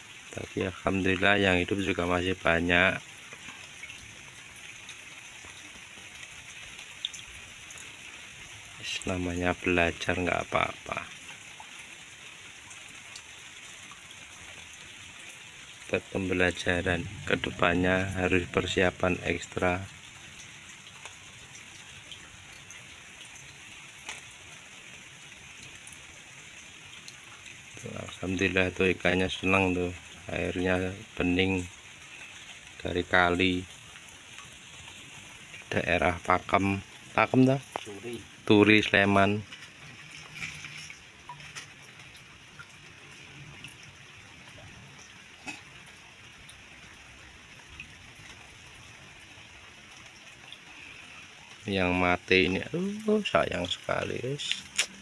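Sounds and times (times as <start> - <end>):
light rain on a pond: 0.0 - 55.0.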